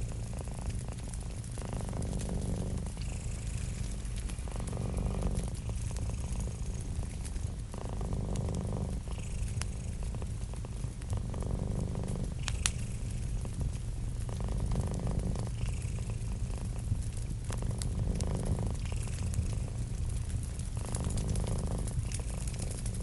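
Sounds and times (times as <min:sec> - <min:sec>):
cat purring: 0:00.0 - 0:23.0
wood fire popping and crackling: 0:00.0 - 0:23.0.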